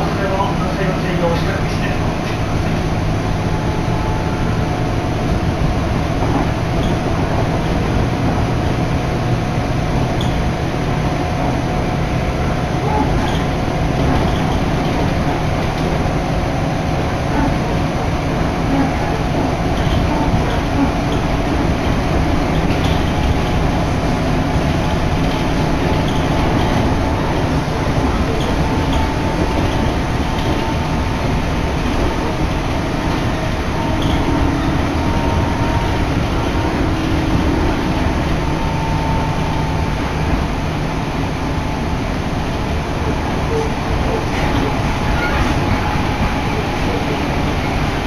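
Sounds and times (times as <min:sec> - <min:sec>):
faint train whine: 0:00.0 - 0:48.0
train wheels rumbling: 0:00.0 - 0:48.0.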